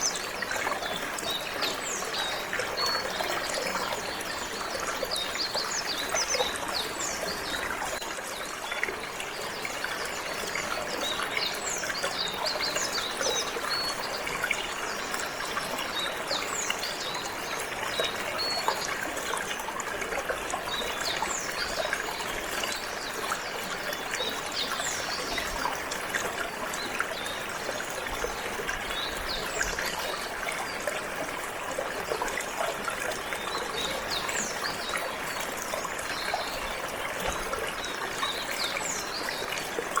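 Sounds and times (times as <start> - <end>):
trickling water: 0.0 - 40.0.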